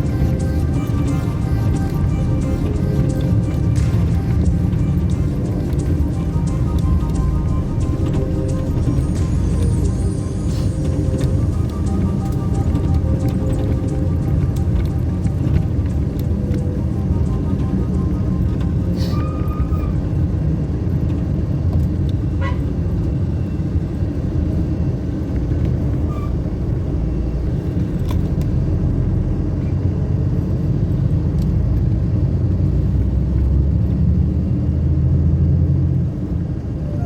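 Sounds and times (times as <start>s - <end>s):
vehicle engine and road rumble: 0.0s - 37.0s.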